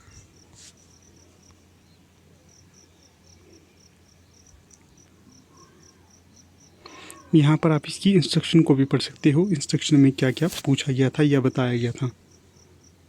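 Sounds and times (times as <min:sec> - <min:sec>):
faint cricket chirping: 0:00.0 - 0:10.7, 0:11.5 - 0:13.0.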